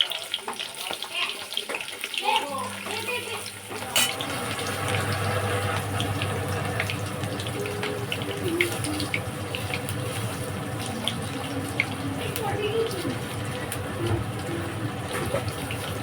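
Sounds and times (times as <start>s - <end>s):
tap water running into sink: 0.0s - 16.0s.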